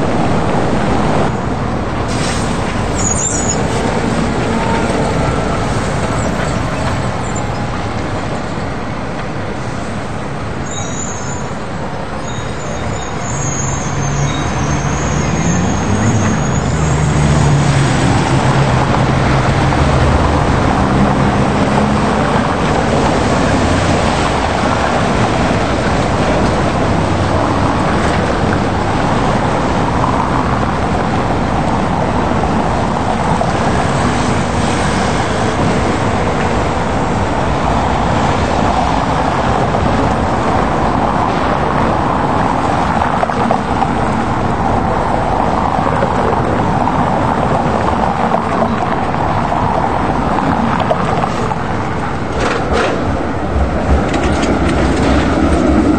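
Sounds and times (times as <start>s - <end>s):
wind buffeting microphone: 0.0s - 10.7s, 15.2s - 55.9s
city street traffic: 0.0s - 55.9s
tram running on rails: 0.0s - 55.9s.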